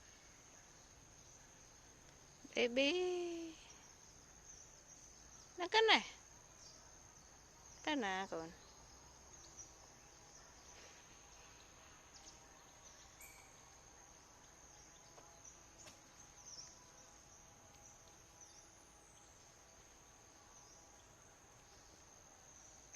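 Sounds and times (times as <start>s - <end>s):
high-pitched insect trill: 0.0s - 22.9s.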